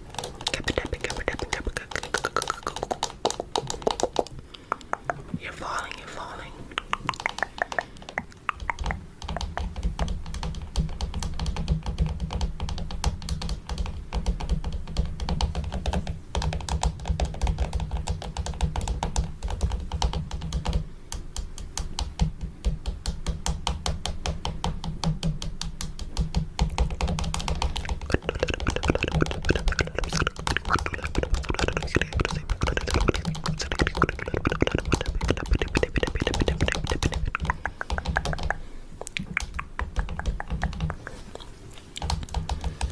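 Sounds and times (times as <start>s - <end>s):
fingernails tapping on camera: 0.1s - 5.2s, 6.8s - 42.9s.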